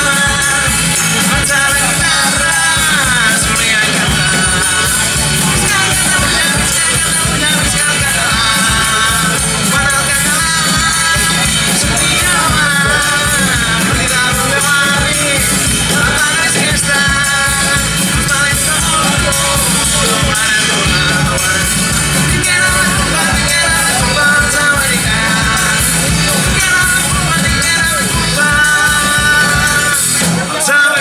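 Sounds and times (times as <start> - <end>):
accordion: 0.0 - 31.0
acoustic and electric guitars: 0.0 - 31.0
drum kit beat: 0.0 - 31.0
live band playing amplified music: 0.0 - 31.0.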